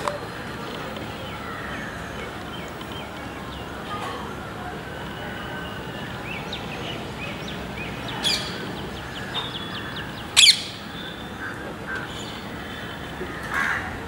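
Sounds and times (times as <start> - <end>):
cuckoo calling: 1.0 - 13.4.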